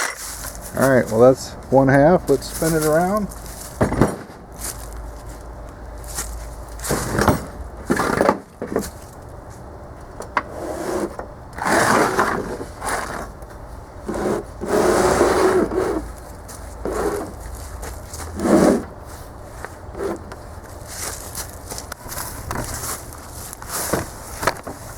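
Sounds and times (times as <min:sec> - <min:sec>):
air compressor dragged on ground: 0:00.0 - 0:05.4, 0:06.0 - 0:09.2, 0:10.4 - 0:24.9.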